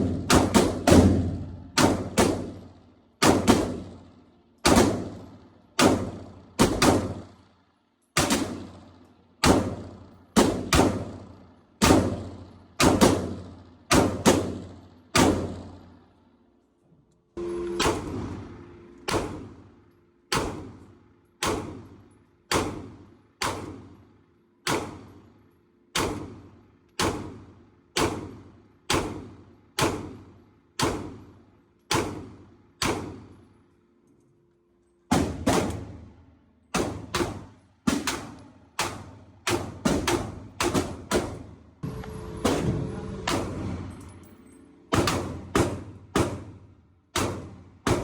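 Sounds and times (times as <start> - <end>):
echoing gunshots indoors: 0.0 - 16.6, 17.4 - 34.2, 34.8 - 48.0.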